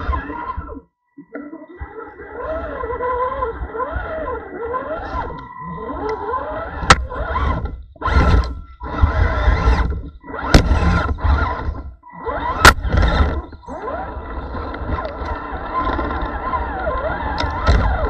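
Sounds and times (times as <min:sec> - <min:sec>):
electric motor and gears whining: 0:00.0 - 0:00.9, 0:01.8 - 0:18.0.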